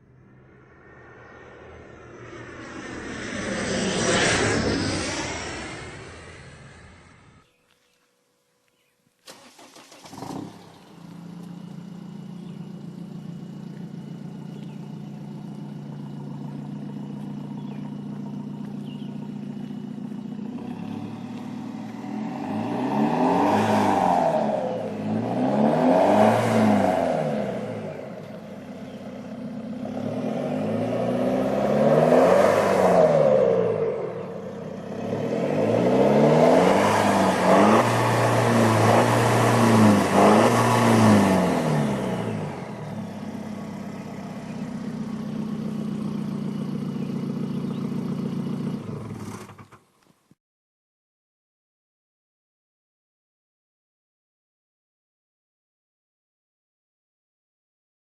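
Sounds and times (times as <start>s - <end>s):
car engine idling and revving: 0.0s - 8.0s, 8.6s - 50.4s.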